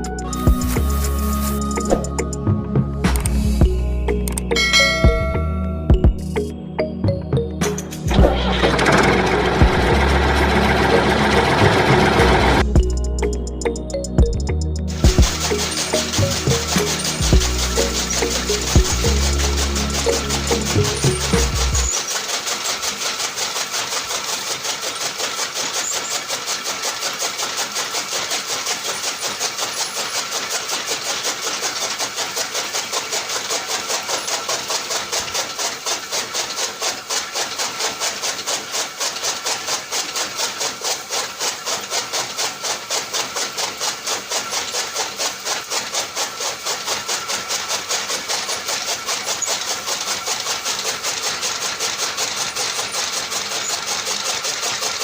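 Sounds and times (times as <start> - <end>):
small electric motor rattling: 7.6 - 55.0.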